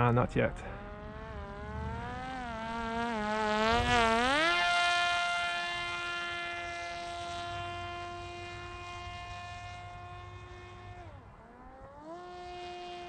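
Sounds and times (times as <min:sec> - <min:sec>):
drone motor and propeller whining: 0:00.0 - 0:13.0.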